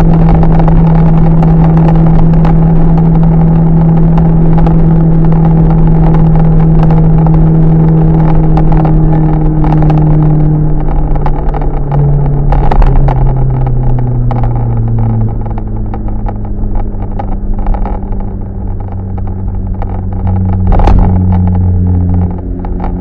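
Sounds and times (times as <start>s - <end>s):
loud car exhaust droning: 0.0s - 23.0s.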